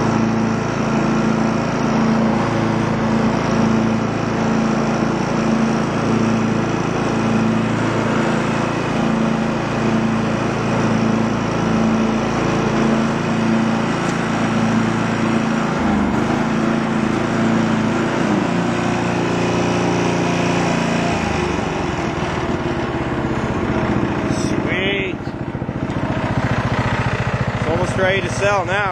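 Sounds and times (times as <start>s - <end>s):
lawn tractor engine running: 0.0s - 28.9s.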